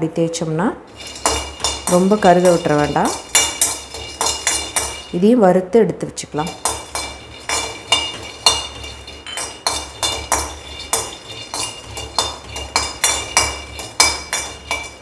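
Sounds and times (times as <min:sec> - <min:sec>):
metal spoon scraping a pan: 0:00.9 - 0:05.4, 0:06.4 - 0:15.0
pan ringing: 0:00.9 - 0:05.4, 0:06.4 - 0:15.0
peanuts rattling on metal: 0:00.9 - 0:05.4, 0:06.4 - 0:15.0.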